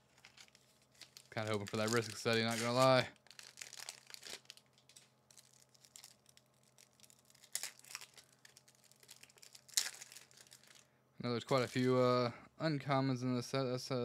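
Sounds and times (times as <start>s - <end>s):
crinkling of foil wrapper and cards: 0.0s - 12.2s.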